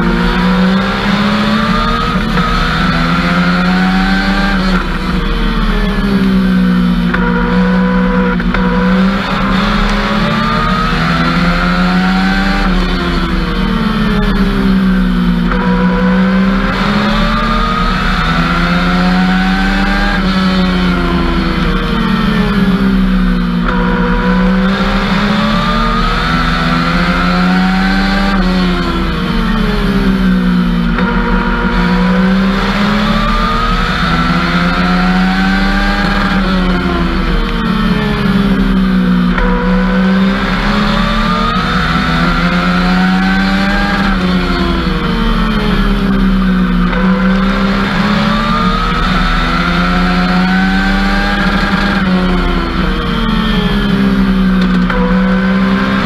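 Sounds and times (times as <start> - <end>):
drivetrain drone: 0.0 - 56.0
race car engine revving: 0.0 - 56.0.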